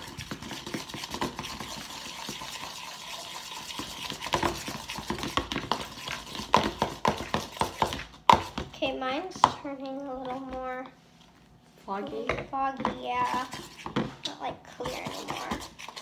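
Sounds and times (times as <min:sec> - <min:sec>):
spoons stirring slime: 0:00.0 - 0:11.0, 0:12.1 - 0:16.0.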